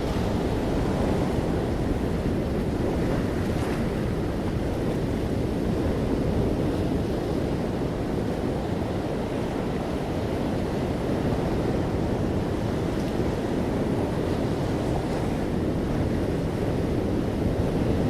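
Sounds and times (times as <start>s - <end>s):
ocean waves on a shore: 0.0s - 18.0s.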